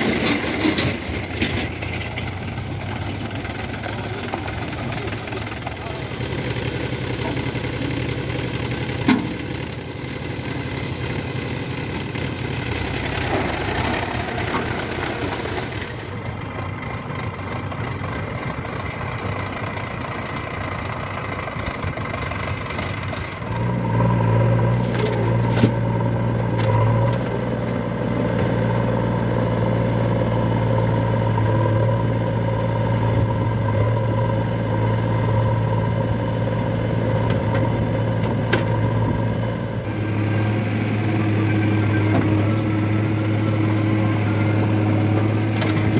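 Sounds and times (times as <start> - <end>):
diesel engines running: 0.0 - 45.9
steady engine tone: 1.4 - 24.8, 25.8 - 45.9.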